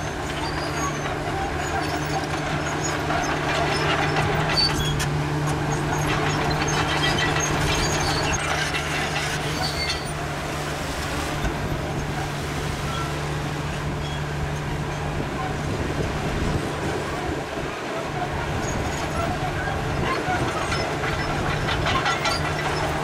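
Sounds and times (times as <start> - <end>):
bulldozer diesel engine under load: 0.0 - 23.0
steel tracks clattering: 0.0 - 23.0.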